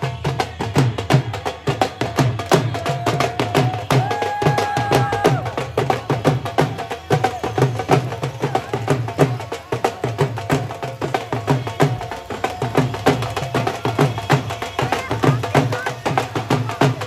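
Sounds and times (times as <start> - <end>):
drums beating quickly: 0.0 - 17.0.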